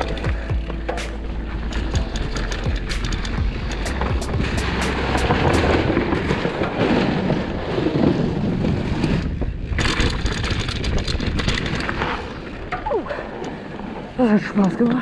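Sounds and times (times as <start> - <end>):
bike rattling: 0.0 - 15.0
bike tyres rolling on dirt: 0.0 - 15.0.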